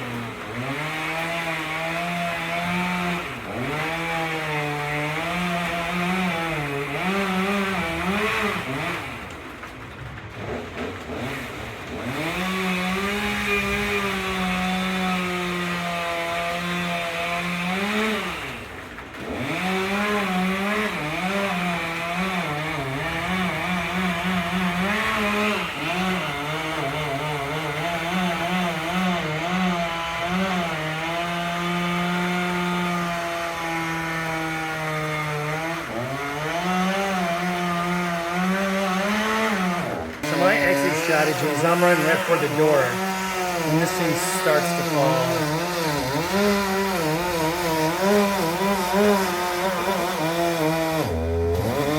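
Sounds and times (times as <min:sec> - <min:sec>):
chainsaw cutting through wood: 0:00.0 - 0:51.9.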